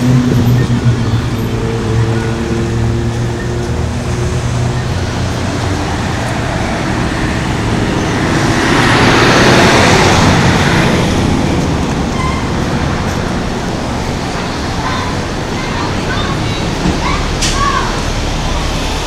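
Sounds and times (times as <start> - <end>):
street traffic noise: 0.0 - 19.0
vehicle passing close by: 0.0 - 19.0.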